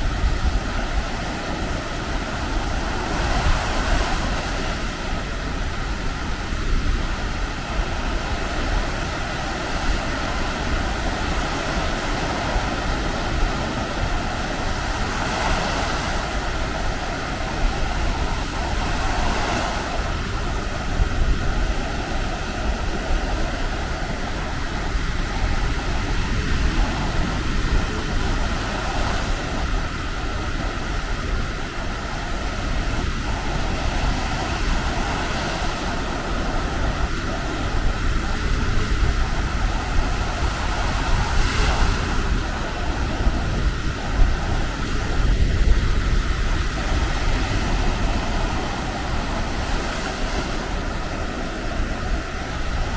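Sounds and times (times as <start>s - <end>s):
surf washing onto beach: 0.0s - 52.9s
wind rumbling on microphone: 0.0s - 52.9s.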